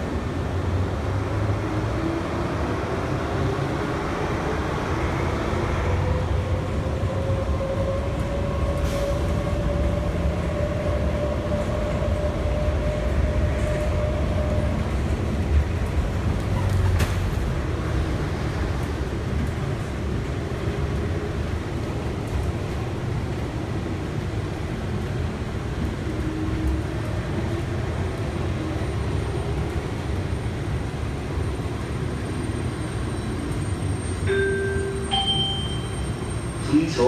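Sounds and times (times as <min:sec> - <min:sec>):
people-mover car rumbling: 0:00.0 - 0:37.0.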